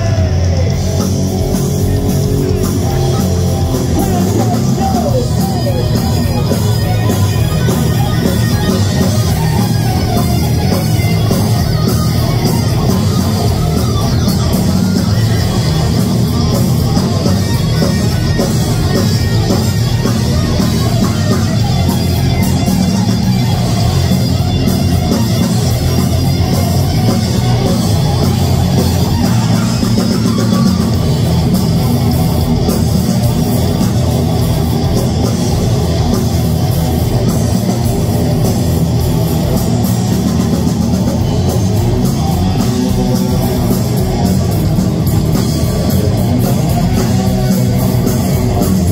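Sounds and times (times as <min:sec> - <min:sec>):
heavy metal band playing: 0:00.0 - 0:48.9.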